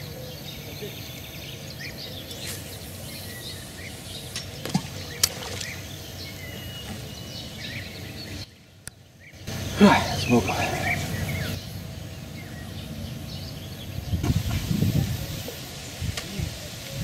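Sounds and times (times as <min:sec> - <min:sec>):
outdoor background hum: 0:00.0 - 0:16.4
small birds chirping: 0:00.0 - 0:17.0.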